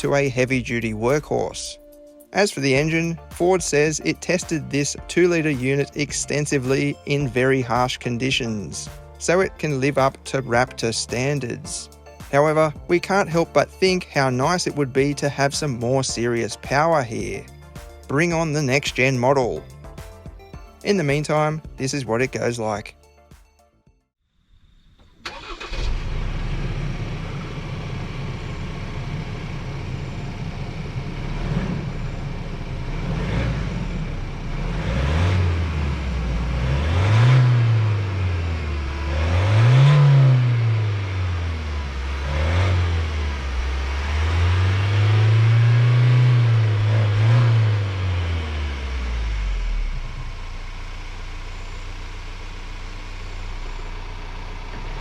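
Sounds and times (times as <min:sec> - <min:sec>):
diesel engine accelerating: 0:00.0 - 0:20.3, 0:24.6 - 0:55.0.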